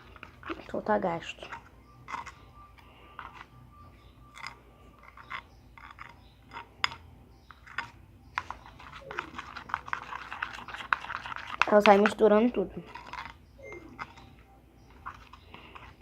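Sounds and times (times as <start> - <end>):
spoon stirring sticky slime: 0.0 - 16.0.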